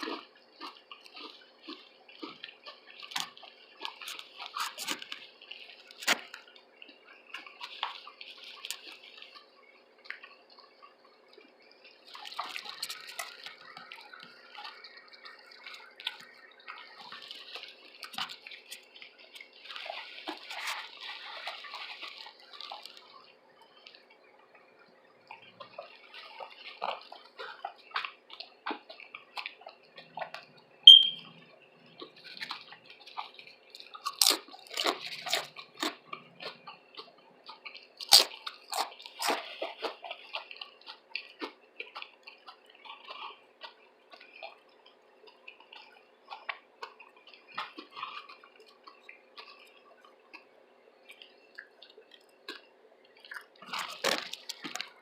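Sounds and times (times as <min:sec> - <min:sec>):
wet chewing and lip smacks: 0:00.0 - 0:55.0.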